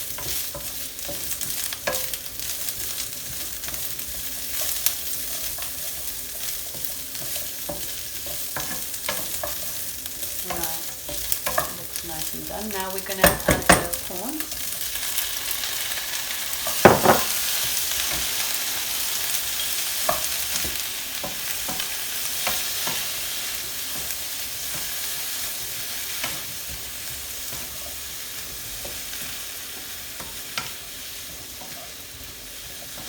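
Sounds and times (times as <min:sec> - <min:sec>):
prawns sizzling in a pan: 0:00.0 - 0:33.0.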